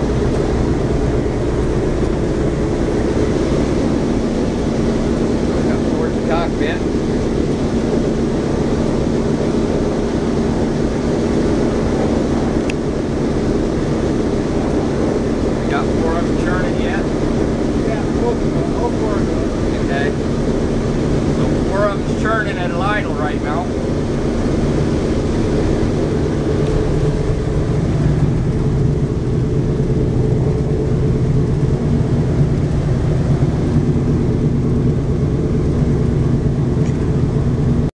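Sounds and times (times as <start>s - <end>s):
aircraft engines droning: 0.0s - 37.9s.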